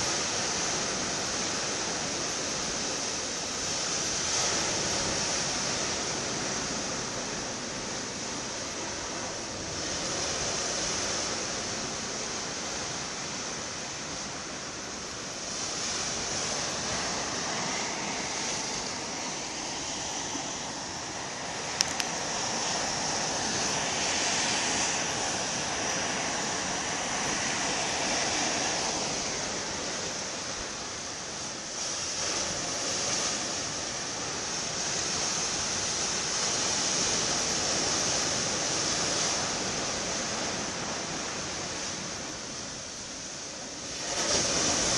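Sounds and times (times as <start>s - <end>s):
sea waves: 0.0s - 44.9s
wind: 0.0s - 44.9s.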